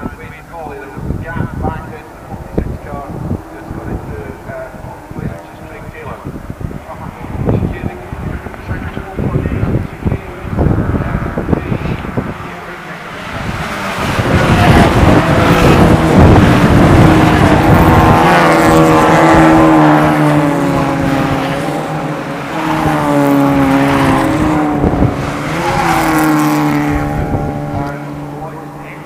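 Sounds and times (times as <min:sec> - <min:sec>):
race cars passing at full throttle: 0:00.0 - 0:29.0.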